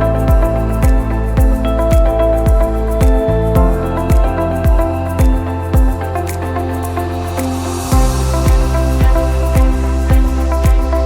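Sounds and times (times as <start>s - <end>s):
deep kick drum beat: 0.0s - 6.0s, 7.9s - 10.9s.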